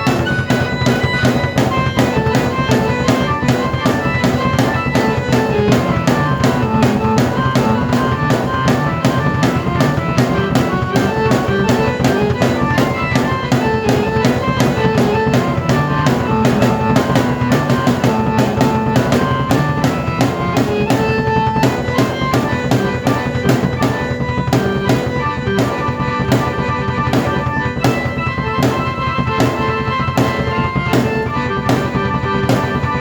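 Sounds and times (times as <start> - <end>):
drum kit beat: 0.0 - 33.0
keyboard melody: 0.0 - 33.0.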